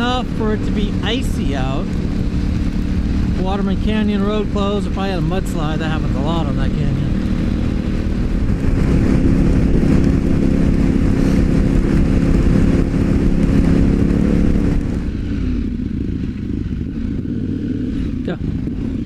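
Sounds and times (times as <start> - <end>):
motorcycle engine running: 0.0 - 19.0
wind: 0.0 - 19.0.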